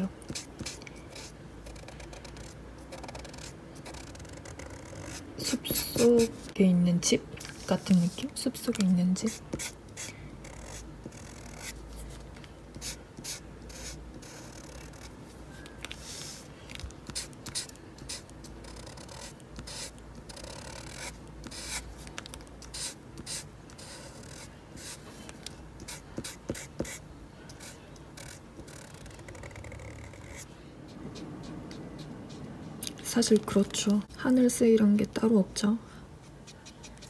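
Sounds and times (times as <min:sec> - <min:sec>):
marker rubbing across paper: 0:00.3 - 0:06.6, 0:07.4 - 0:12.2, 0:12.8 - 0:15.2, 0:15.9 - 0:25.2, 0:25.8 - 0:33.7, 0:36.2 - 0:37.0.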